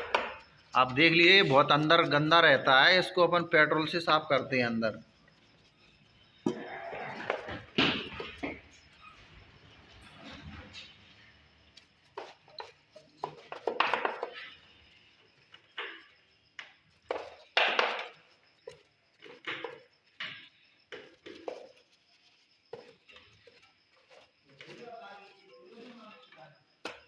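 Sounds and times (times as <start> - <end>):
parts clattering and scraping: 0.0 - 27.0.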